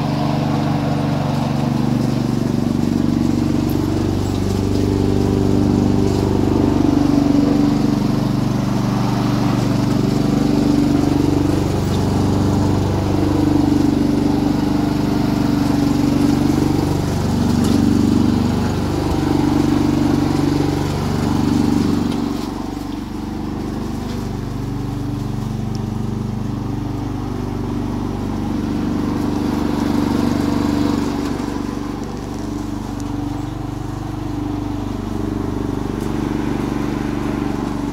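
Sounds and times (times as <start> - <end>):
lawn mower engine running: 0.0 - 37.9.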